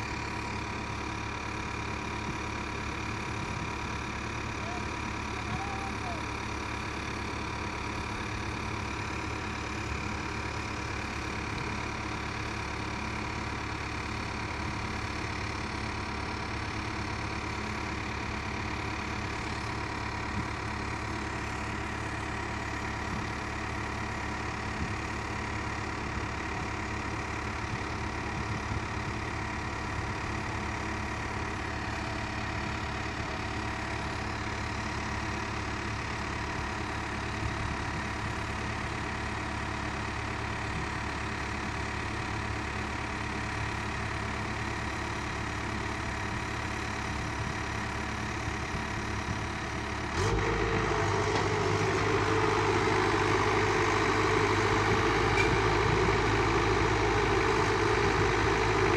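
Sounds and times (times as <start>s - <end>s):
excavator diesel engine idling: 0.0s - 58.9s.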